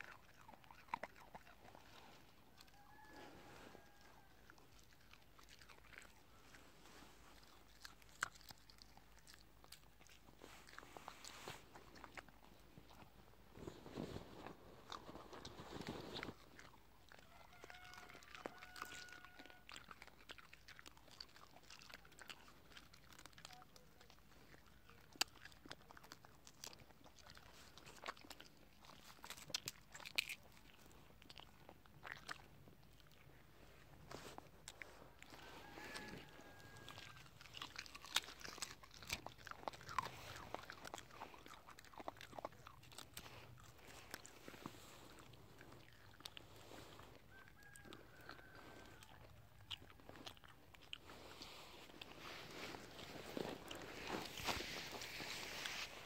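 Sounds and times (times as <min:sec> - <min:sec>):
dog chewing dry pods: 0:00.0 - 0:56.0.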